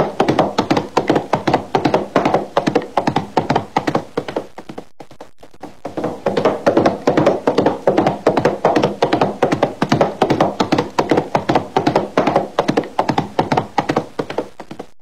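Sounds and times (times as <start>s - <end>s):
horse hooves galloping: 0.0s - 15.0s.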